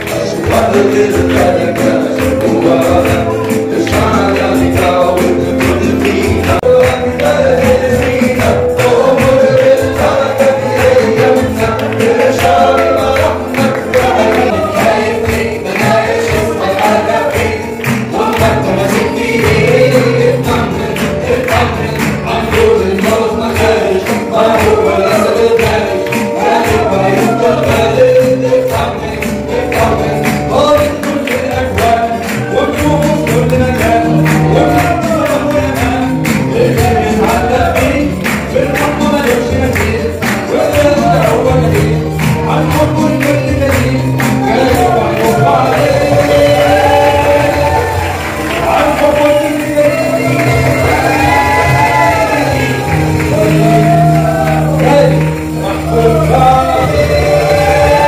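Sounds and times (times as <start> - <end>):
congregation singing worship song: 0.0 - 58.0
percussion beat: 0.0 - 58.0.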